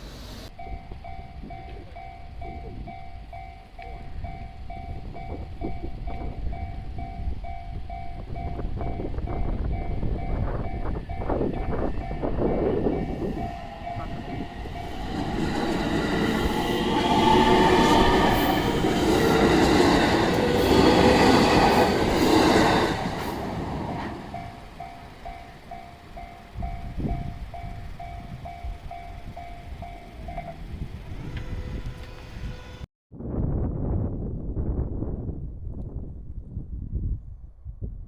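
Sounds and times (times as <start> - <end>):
train rumbling past: 0.0 - 32.9
crossing alarm bell ringing: 0.4 - 32.9.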